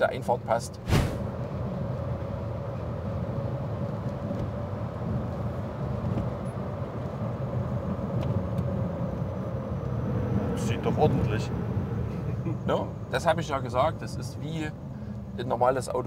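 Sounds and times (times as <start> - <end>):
road and tyre rumble: 0.0 - 16.0.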